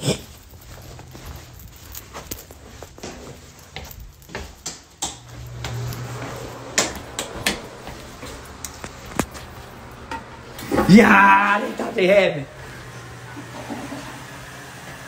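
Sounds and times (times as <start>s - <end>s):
low hum: 0.2s - 4.4s, 5.0s - 14.7s.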